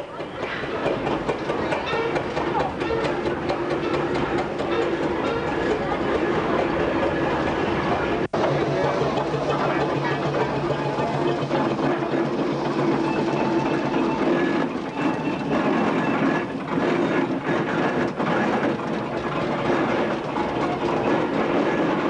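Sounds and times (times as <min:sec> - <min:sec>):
steam roller mechanical clatter: 0:00.0 - 0:22.0.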